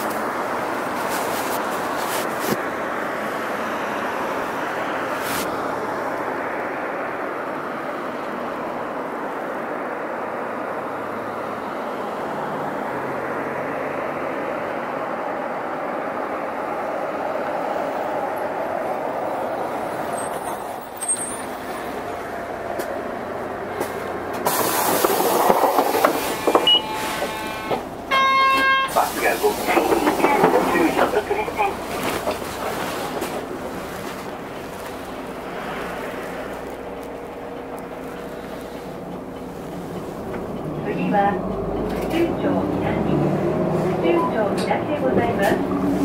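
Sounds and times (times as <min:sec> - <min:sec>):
bus engine and road noise: 0:00.0 - 0:46.0.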